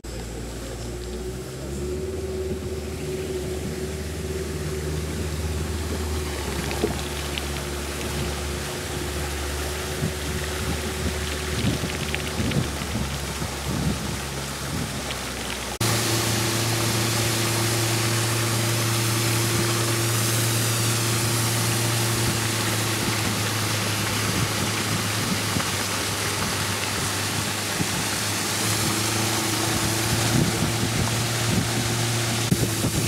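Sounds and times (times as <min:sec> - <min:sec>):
motorboat engine hum: 0:00.0 - 0:33.0
water and wind rushing: 0:00.4 - 0:33.0.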